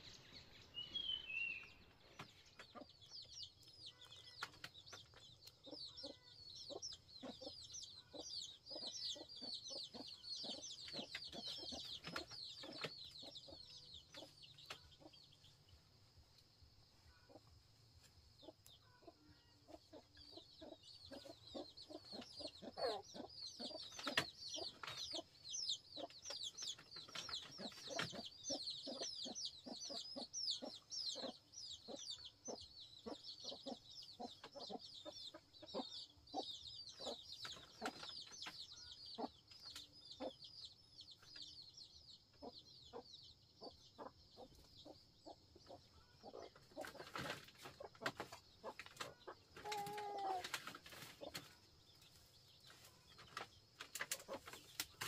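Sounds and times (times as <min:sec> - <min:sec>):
chickens clucking: 0:00.0 - 0:55.0
chicks peeping: 0:00.0 - 0:55.0.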